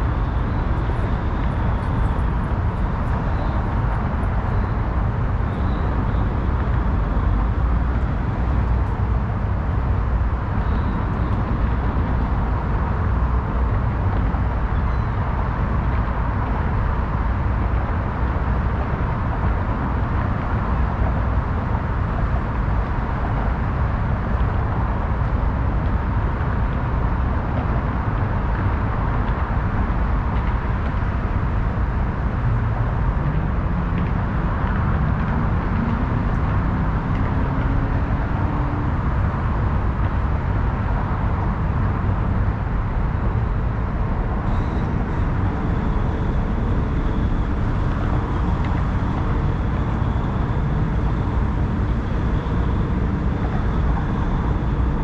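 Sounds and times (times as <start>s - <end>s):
city traffic noise: 0.0s - 55.0s.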